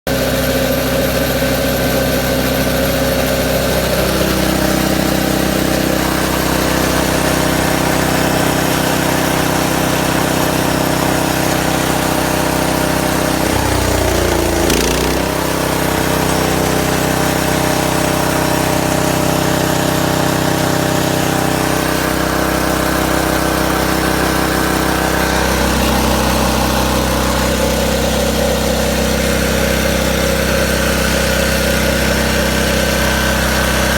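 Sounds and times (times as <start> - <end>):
gas engine running: 1.8 - 33.9.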